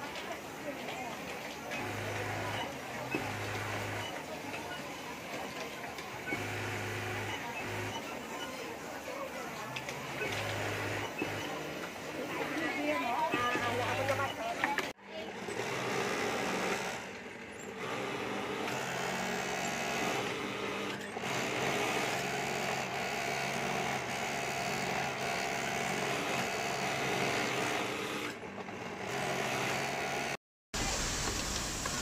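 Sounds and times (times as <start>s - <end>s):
hum of sewing machines: 0.0s - 32.0s
overlock sewing machine running: 0.1s - 32.0s.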